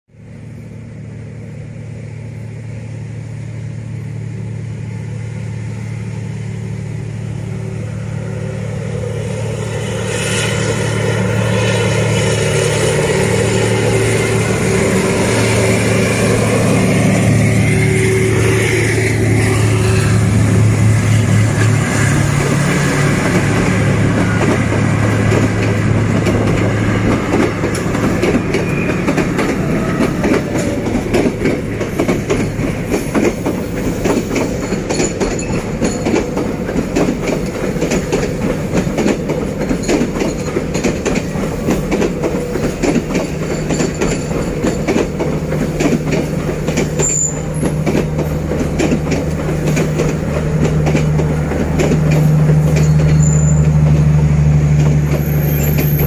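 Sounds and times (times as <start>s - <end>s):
diesel locomotive engine humming: 0.1s - 56.0s
train wheels on rails: 0.2s - 56.0s.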